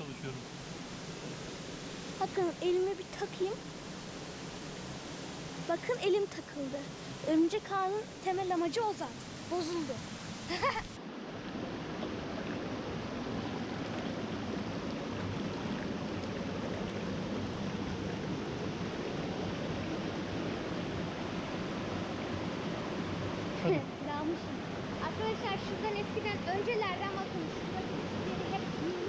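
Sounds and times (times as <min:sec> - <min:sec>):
flowing stream: 0:00.0 - 0:29.0.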